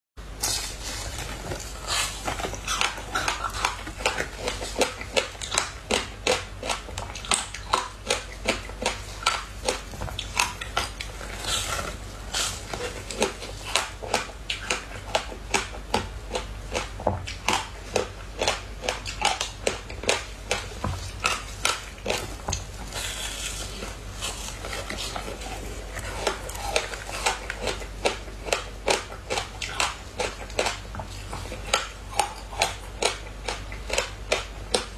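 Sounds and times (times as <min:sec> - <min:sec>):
chewing: 0:00.4 - 0:34.9.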